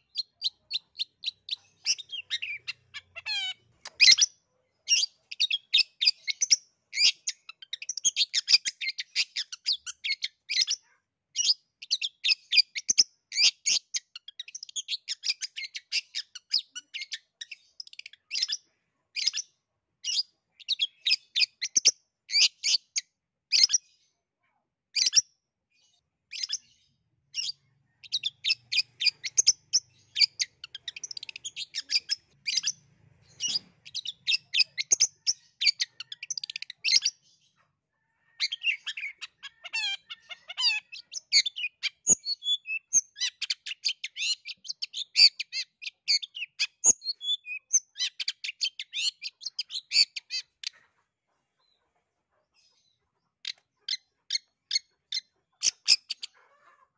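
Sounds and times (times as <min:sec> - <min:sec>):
bird chattering song: 0:00.0 - 0:24.1, 0:24.9 - 0:56.8.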